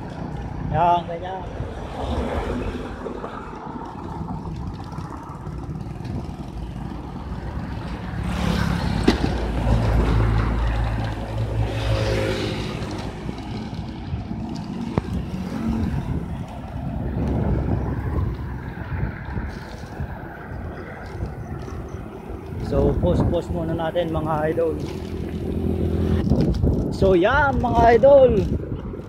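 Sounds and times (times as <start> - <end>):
passing vehicle engine hum: 0.0 - 26.9
wind over microphone: 0.0 - 29.0.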